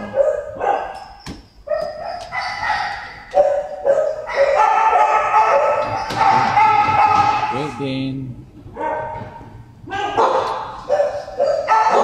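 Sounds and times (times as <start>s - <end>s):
dogs barking: 0.0s - 7.8s, 8.7s - 12.0s.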